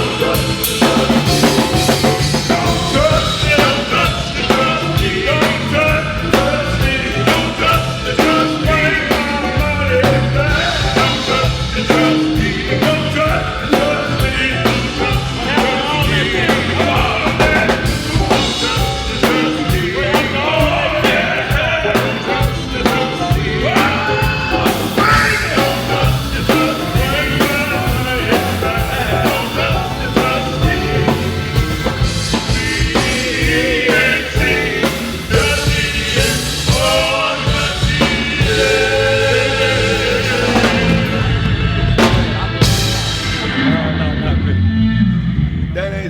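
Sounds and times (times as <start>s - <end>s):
live band playing: 0.0s - 45.7s
voices singing: 0.0s - 46.0s.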